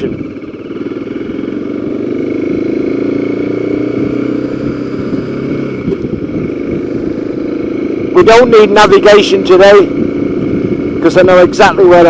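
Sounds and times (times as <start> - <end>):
motorcycle engine accelerating: 0.0 - 12.0
road and wind noise: 0.0 - 12.0.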